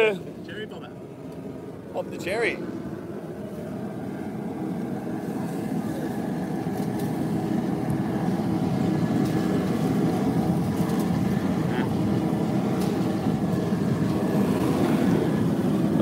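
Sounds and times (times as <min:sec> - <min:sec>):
steady low roar: 0:01.5 - 0:16.0.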